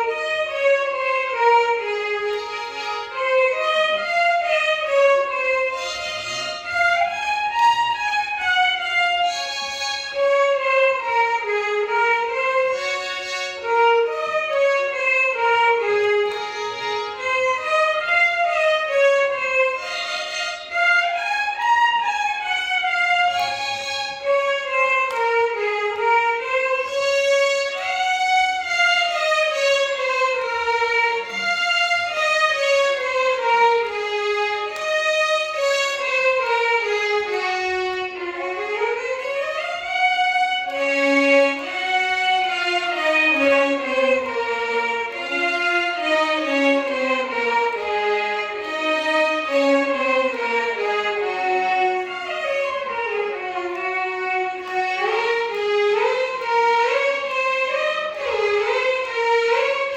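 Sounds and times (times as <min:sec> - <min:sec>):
violin ensemble melody: 0:00.0 - 0:59.9.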